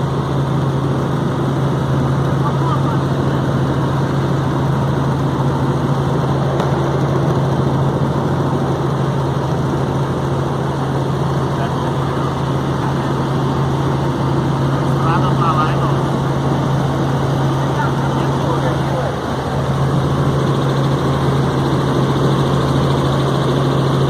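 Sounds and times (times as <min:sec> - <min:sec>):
helicopter rotor and turbine drone: 0:00.0 - 0:24.0.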